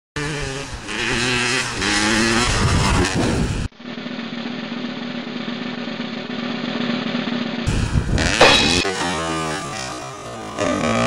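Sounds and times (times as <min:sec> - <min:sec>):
dirt bike engine revving: 0:00.2 - 0:11.0.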